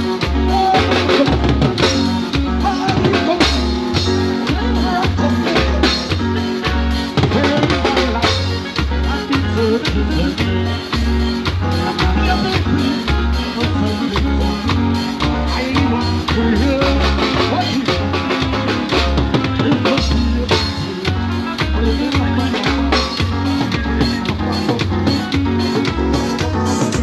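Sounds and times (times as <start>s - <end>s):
drum kit: 0.0s - 27.0s
keyboard: 0.0s - 27.0s
pulsing bass beat: 0.0s - 27.0s.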